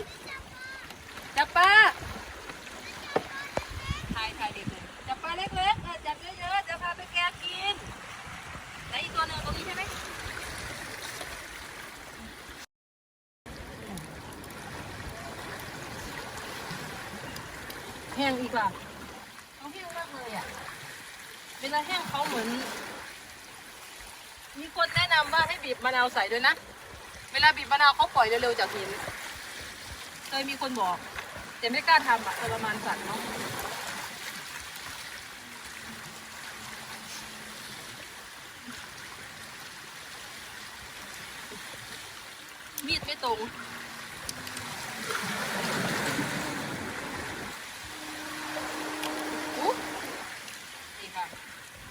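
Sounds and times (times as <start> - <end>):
seawater washing among rocks: 0.0 - 12.2, 13.5 - 51.9.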